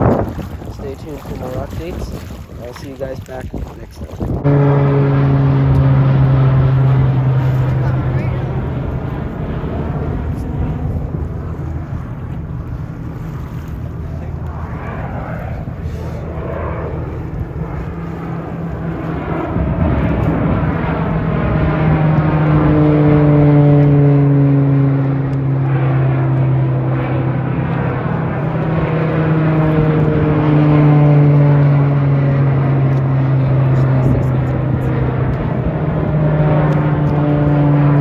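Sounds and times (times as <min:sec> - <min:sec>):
plane flying past: 0:00.0 - 0:38.0.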